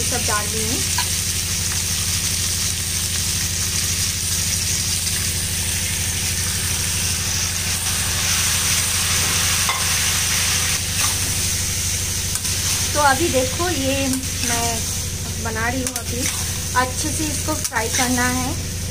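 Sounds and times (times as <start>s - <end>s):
chicken sizzling in oil: 0.0s - 18.9s
low mechanical hum: 0.0s - 18.9s.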